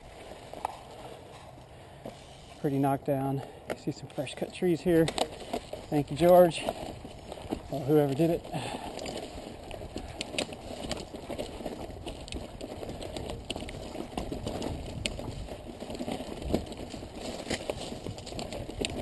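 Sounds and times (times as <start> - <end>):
tyres crunching on stones: 2.0 - 19.0
bike chain and frame rattling: 2.2 - 19.0.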